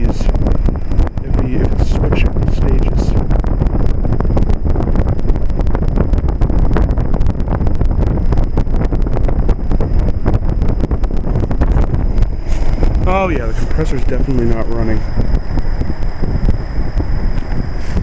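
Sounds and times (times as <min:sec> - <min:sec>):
air buffeting microphone: 0:00.0 - 0:18.0.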